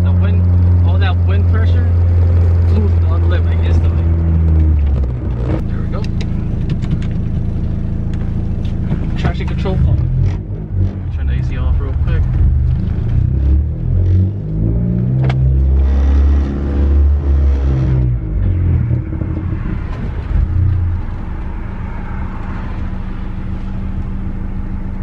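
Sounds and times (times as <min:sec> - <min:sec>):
car engine from inside cabin: 0:00.0 - 0:25.0
road noise: 0:00.0 - 0:25.0.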